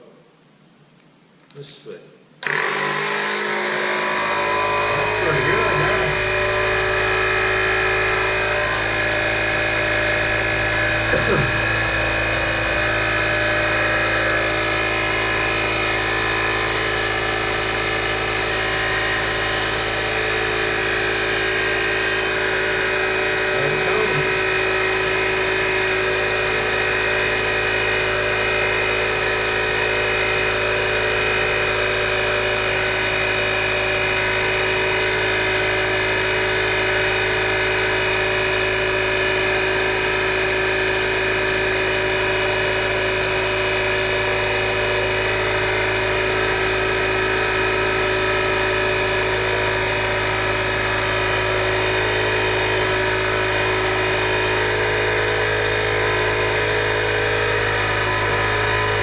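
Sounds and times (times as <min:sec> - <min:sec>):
electric air compressor humming: 0:02.4 - 0:59.0.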